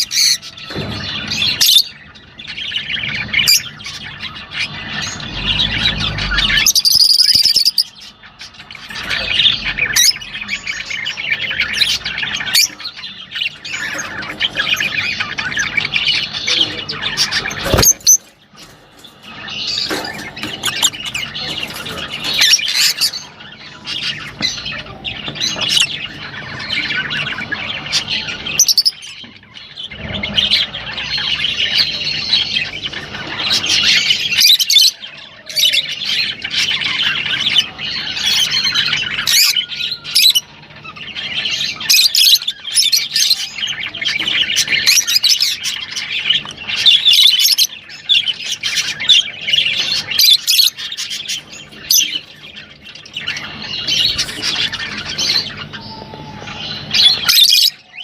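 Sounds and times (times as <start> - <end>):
parrots chattering and squawking: 0.0 - 58.0.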